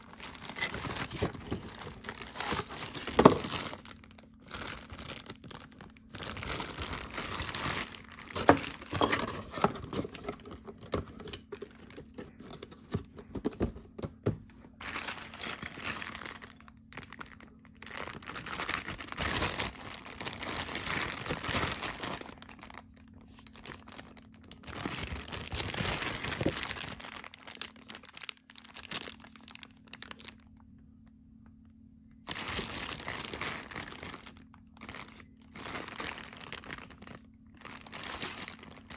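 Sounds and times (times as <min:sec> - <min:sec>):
plastic packaging crinkling: 0:00.0 - 0:30.8, 0:32.2 - 0:38.9.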